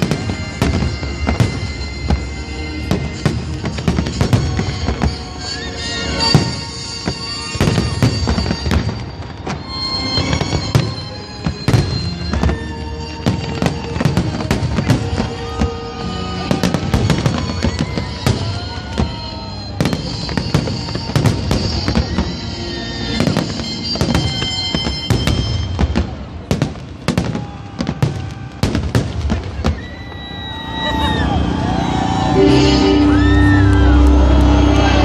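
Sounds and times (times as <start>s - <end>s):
music playing: 0.0s - 26.6s, 30.8s - 35.0s
fireworks bangs and crackles: 0.0s - 35.0s.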